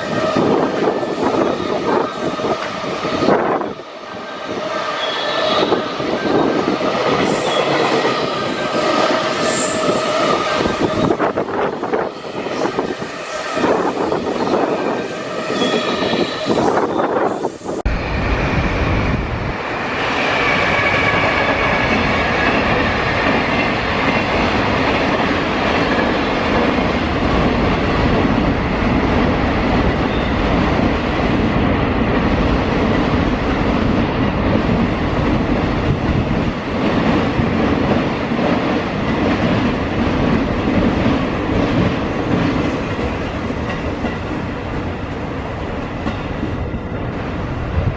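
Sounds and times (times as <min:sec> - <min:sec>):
freight train rolling: 0:00.0 - 0:47.9.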